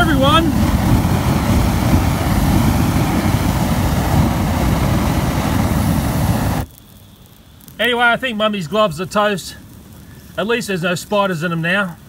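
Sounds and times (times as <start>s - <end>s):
flamethrower rushing: 0.0s - 12.0s.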